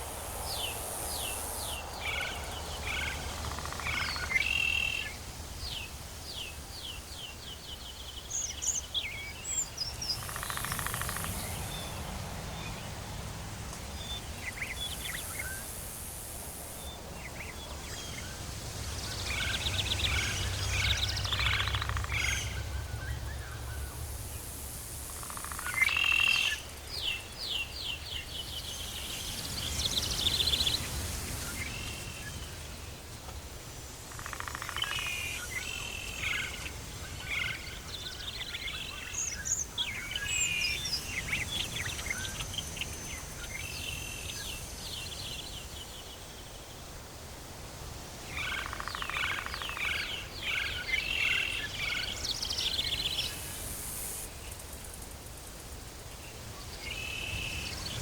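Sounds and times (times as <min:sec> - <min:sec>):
low forest ambience hum: 0:00.0 - 0:58.0.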